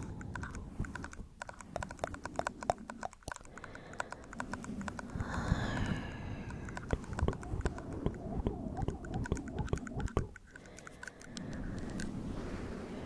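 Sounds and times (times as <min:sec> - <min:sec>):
fingernails tapping on microphone windscreen: 0:00.0 - 0:12.2.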